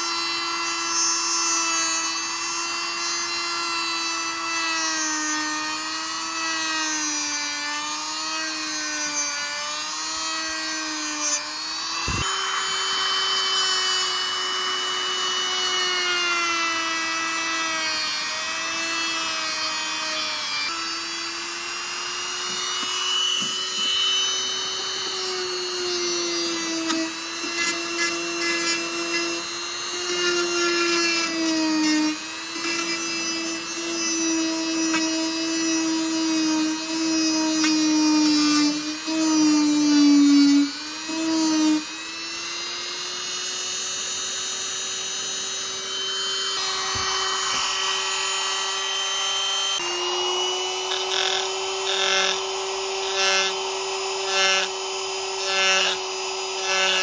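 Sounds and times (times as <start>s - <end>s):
rotary tool grinding steel blade: 0.0s - 57.0s.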